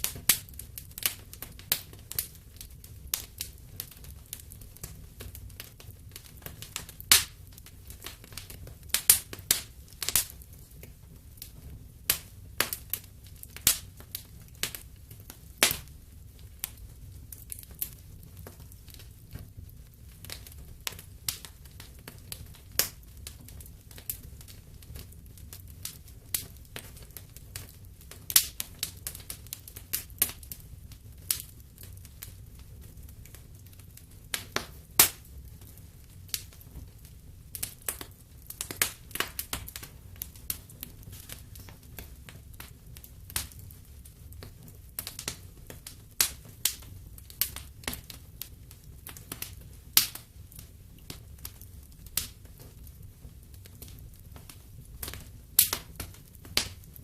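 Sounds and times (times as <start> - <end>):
fire popping: 0.0 - 57.0
low rumble of flames: 0.0 - 57.0
wood fire crackling: 0.0 - 57.0.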